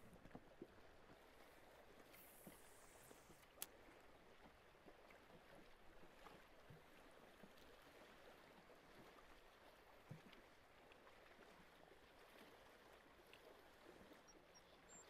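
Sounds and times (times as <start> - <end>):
water lapping around boat: 0.0 - 15.0.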